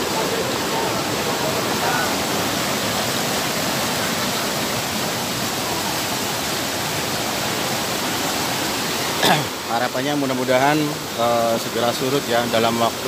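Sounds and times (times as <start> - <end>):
floodwater rushing through street: 0.0 - 13.0.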